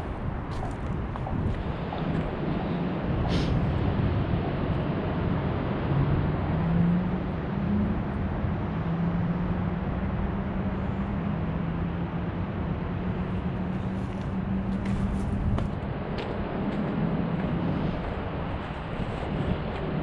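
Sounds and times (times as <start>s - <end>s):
city traffic noise: 0.0s - 20.0s
low engine hum: 0.0s - 20.0s.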